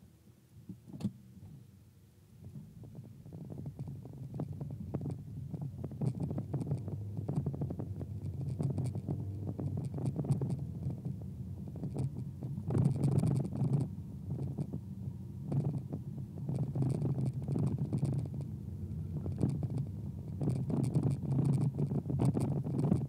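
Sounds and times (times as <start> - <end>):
small clicks and rattles: 2.4 - 14.8, 15.4 - 23.0
engine and road rumble: 2.4 - 23.0.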